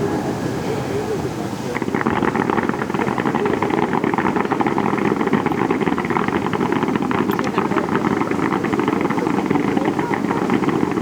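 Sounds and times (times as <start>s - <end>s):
fireworks crackling: 1.8s - 11.0s.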